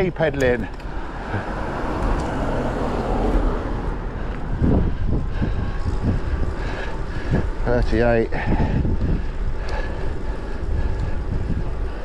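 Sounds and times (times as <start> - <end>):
traffic: 0.0 - 12.0
tyre and wind rumble: 0.0 - 12.0.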